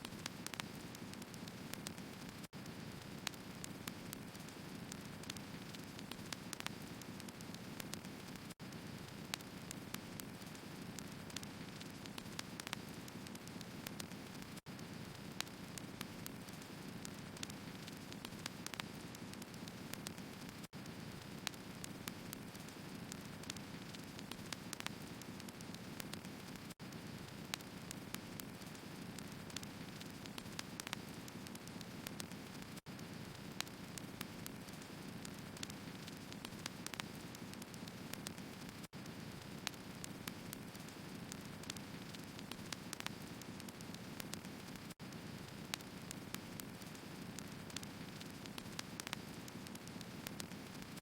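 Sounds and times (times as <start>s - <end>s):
firewood crackling and hissing: 0.0s - 51.0s.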